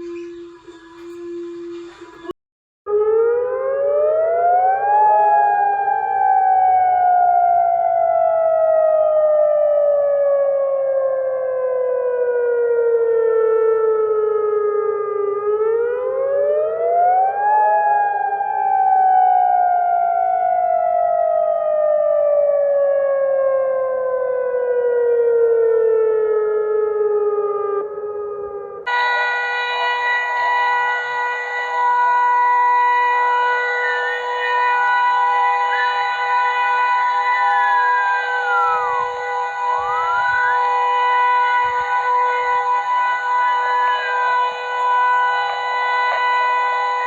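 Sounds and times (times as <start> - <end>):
emergency siren wailing: 2.9 - 47.0.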